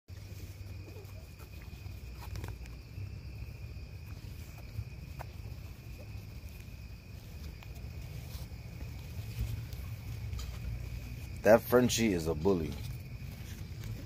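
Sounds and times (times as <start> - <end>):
crickets trilling: 0.1 - 14.0
dogs scuffling: 0.1 - 14.0.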